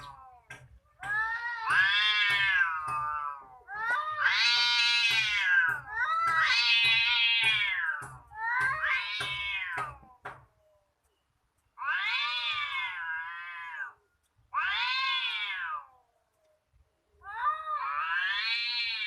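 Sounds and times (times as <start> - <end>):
cats yowling: 0.0 - 10.4, 11.8 - 16.2, 17.2 - 19.0.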